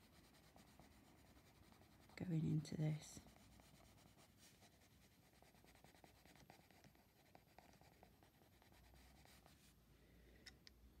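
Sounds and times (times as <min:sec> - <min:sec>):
pencil scratching on paper: 0:00.0 - 0:02.4, 0:03.2 - 0:09.7.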